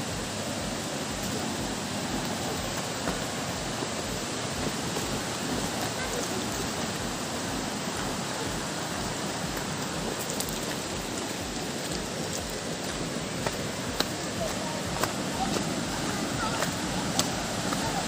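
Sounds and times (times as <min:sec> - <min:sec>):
rain: 0:00.0 - 0:18.0
waterfall roar: 0:00.0 - 0:18.0.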